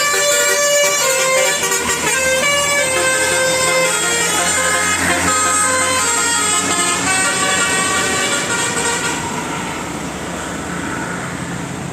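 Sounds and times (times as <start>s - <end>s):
multi-tone bus horn: 0.0s - 9.8s.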